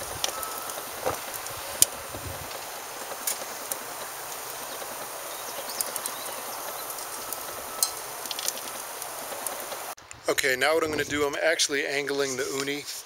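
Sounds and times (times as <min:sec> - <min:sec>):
fire crackling and popping: 0:00.0 - 0:12.9
steady fire hiss: 0:00.0 - 0:13.0.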